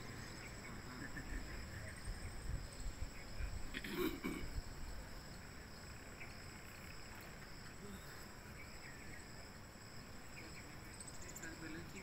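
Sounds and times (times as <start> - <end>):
faint insect chirps: 0.0 - 12.0
insects droning: 0.0 - 12.0.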